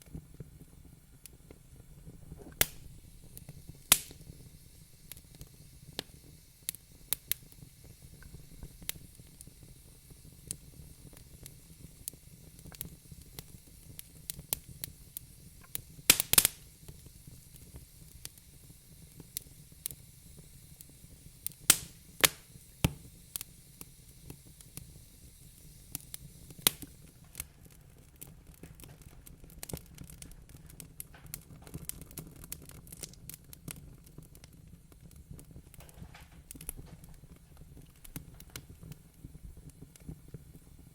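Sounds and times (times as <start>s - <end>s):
fire popping: 0.0s - 40.9s
wood fire crackling: 0.0s - 40.9s.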